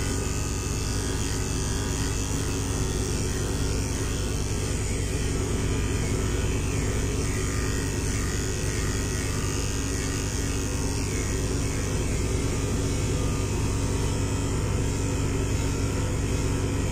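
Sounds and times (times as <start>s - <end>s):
electric pet clipper humming: 0.0s - 16.9s.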